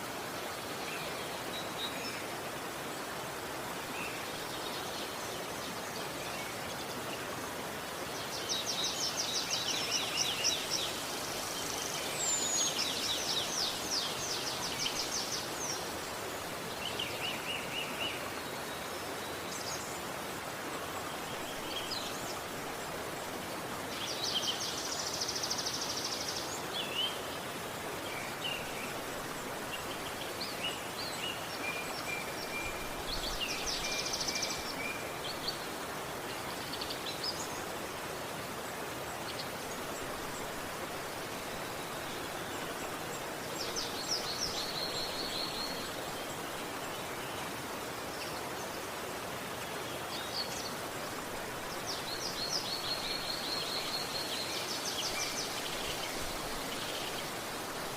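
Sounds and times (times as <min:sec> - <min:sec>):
river water rushing: 0:00.0 - 0:57.9.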